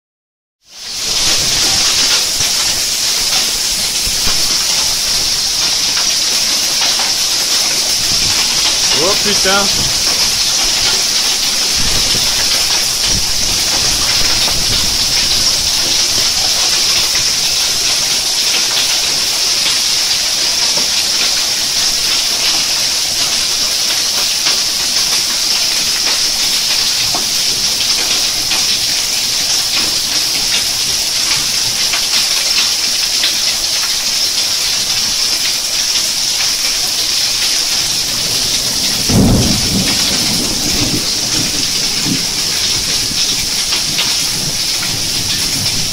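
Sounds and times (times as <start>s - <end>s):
heavy rain and hail pelting water: 0.6s - 45.9s.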